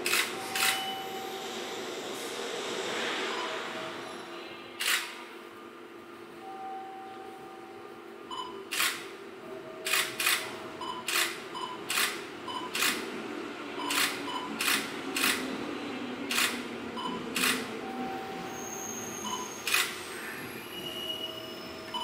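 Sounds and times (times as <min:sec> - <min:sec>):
train rumble: 0:00.0 - 0:06.0, 0:09.4 - 0:22.0.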